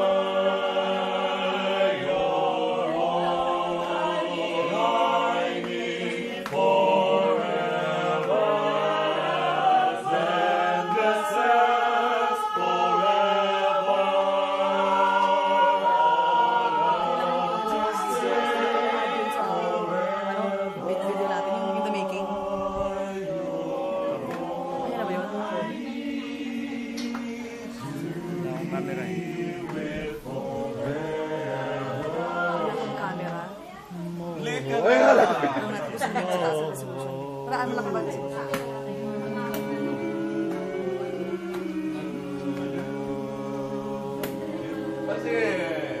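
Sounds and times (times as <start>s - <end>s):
choir singing in harmony: 0.0s - 46.0s.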